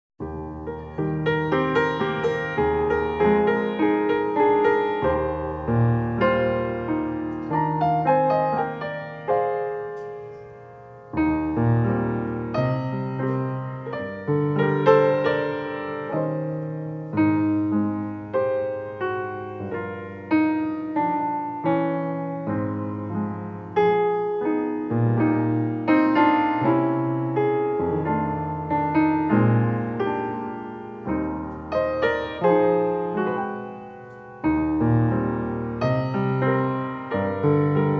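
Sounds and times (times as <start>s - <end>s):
solo piano: 0.2s - 37.9s.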